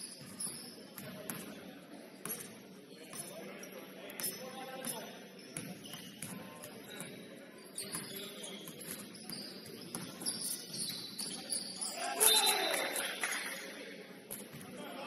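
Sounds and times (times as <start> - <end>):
sneakers squeaking on floor: 0.0 - 14.8.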